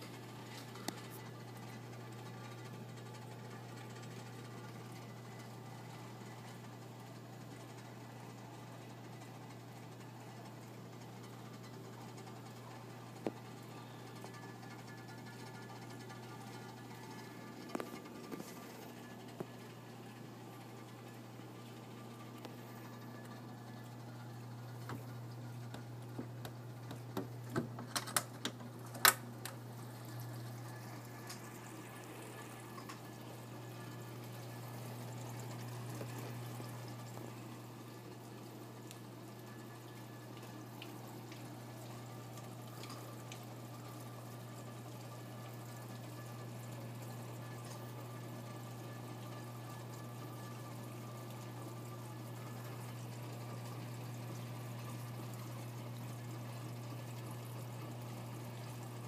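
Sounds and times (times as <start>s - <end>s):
low pump hum: 0.0s - 59.0s.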